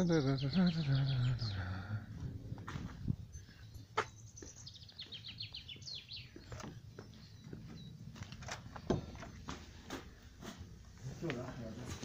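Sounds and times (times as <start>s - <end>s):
songbird singing: 0.0s - 9.8s.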